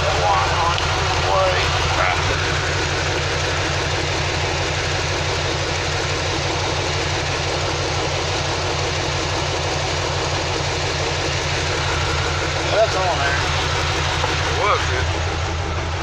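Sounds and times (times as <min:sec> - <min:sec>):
misfiring engine idling: 0:00.0 - 0:16.0.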